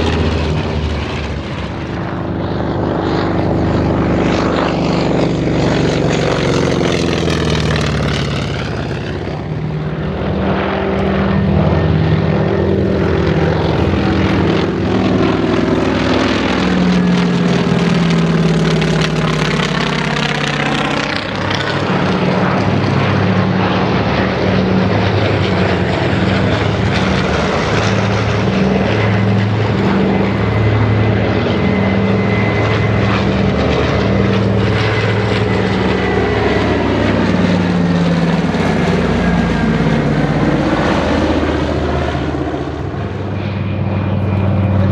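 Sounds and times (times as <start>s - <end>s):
propeller aircraft flying past: 0.0s - 44.9s.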